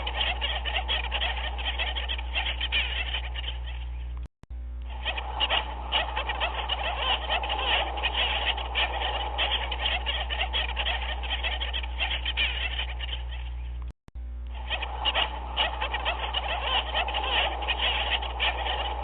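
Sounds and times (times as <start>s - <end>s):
chorus of animal calls: 0.0s - 4.2s, 4.9s - 13.8s, 14.5s - 19.0s
steady low hum: 0.0s - 19.0s.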